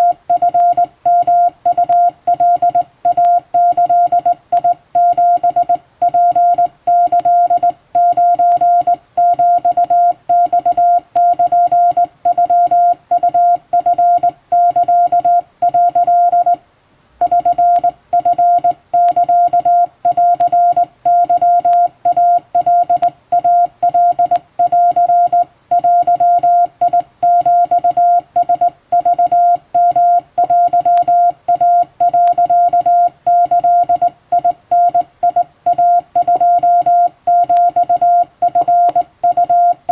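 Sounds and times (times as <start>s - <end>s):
morse code beeps: 0.0s - 16.6s, 17.2s - 39.9s.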